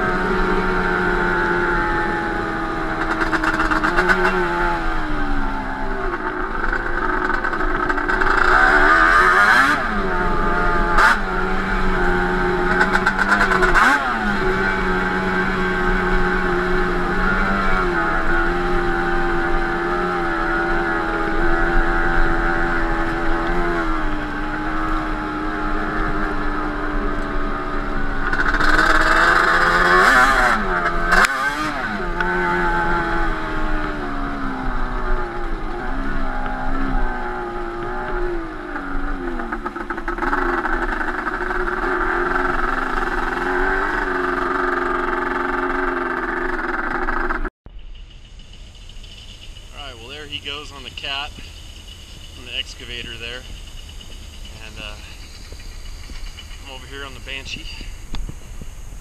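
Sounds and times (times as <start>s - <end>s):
two-stroke engine revving: 0.0s - 47.5s, 48.8s - 59.0s.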